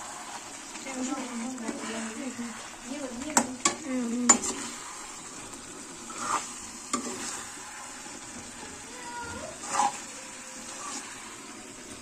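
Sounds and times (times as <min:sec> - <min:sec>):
meat sizzling in a pan: 0:00.0 - 0:12.0
spoon stirring and scraping: 0:00.1 - 0:05.4, 0:06.0 - 0:08.5, 0:09.5 - 0:11.4.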